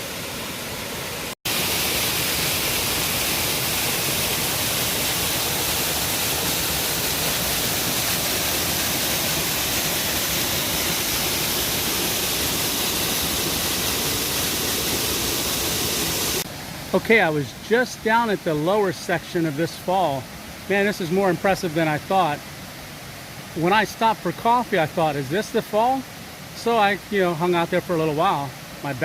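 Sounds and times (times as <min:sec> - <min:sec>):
waterfall pouring over rocks: 0:00.0 - 0:29.0.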